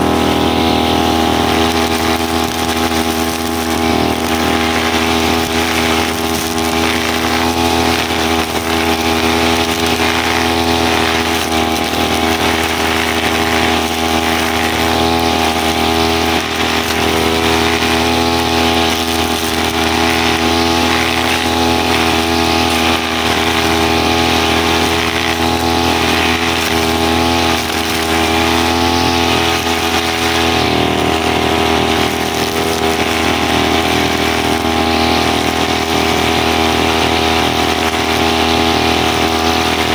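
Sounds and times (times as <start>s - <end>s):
brushcutter engine running: 0.0s - 39.9s.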